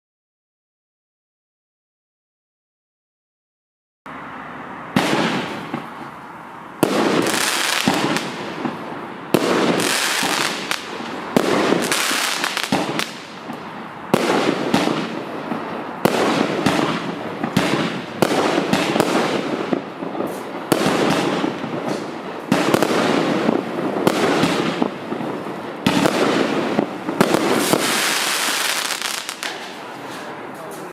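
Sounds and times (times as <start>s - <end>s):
fireworks crackling and popping: 4.9s - 30.9s
fireworks launch bangs: 4.9s - 30.9s.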